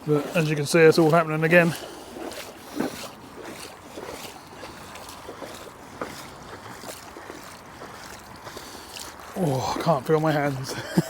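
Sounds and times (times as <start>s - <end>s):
boots splashing through water: 0.0s - 11.0s.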